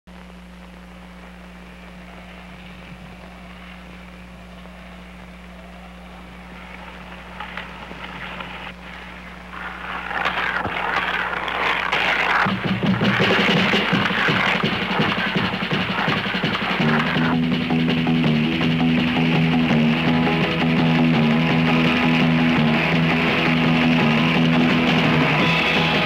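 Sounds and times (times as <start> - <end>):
film soundtrack hum and hiss: 0.1 - 26.0
skateboard wheels rolling on asphalt: 0.4 - 26.0.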